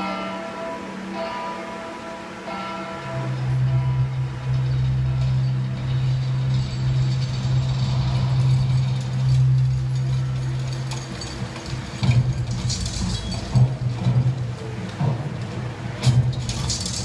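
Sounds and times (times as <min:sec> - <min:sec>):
low drone over loudspeakers: 0:00.0 - 0:17.0.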